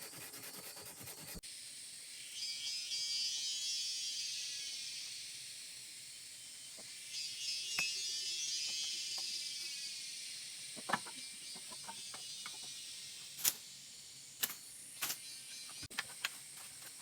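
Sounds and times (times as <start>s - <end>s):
steady high hiss: 1.3s - 17.0s.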